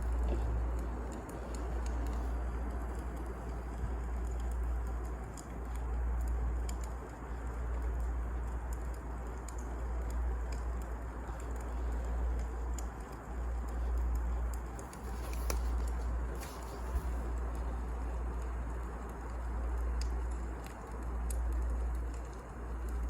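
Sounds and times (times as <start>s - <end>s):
fire crackling and popping: 0.0s - 23.0s
wood fire rumbling: 0.0s - 23.0s.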